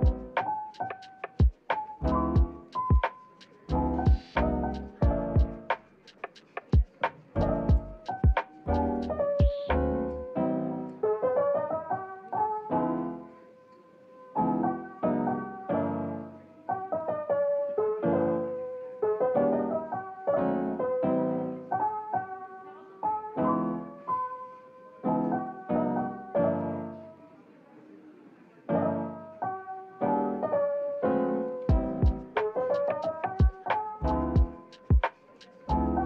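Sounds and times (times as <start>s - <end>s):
slow lofi piano music: 0.0s - 27.6s, 28.6s - 36.0s.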